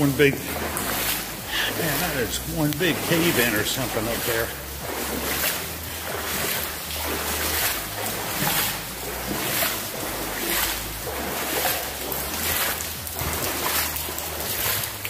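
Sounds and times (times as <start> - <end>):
footsteps wading through water: 0.0 - 15.0.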